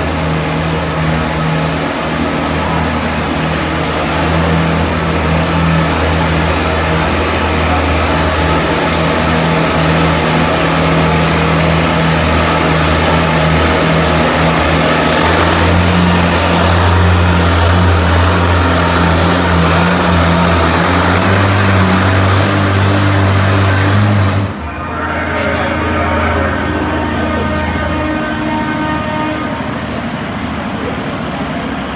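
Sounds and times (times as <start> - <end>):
tractor engine running hard: 0.0 - 31.9.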